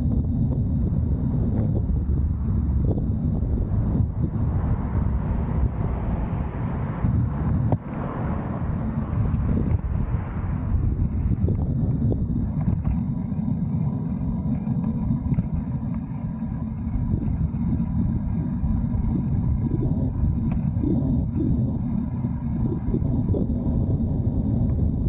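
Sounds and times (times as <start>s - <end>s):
wind buffeting a microphone: 0.0s - 25.0s.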